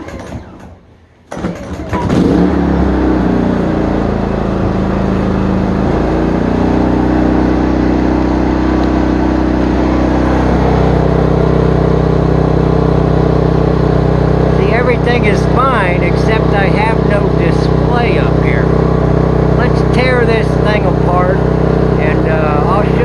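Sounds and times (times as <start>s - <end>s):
generator engine pull-started: 0.0s - 23.0s.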